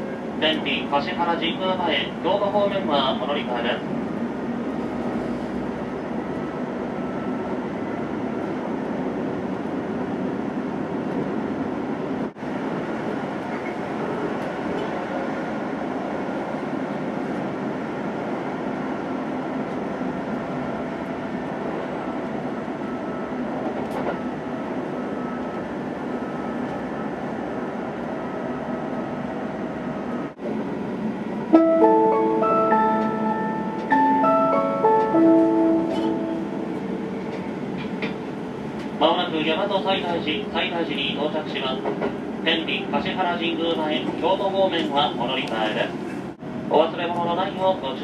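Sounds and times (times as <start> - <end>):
train running inside cabin: 0.0 - 48.0.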